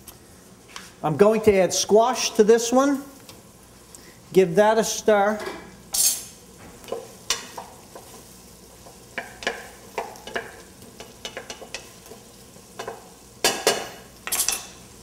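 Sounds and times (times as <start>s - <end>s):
onions sizzling: 0.0s - 15.0s.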